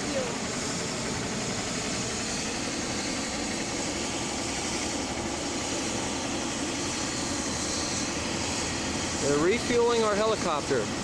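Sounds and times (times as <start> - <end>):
mechanical drone with hiss: 0.0 - 11.0.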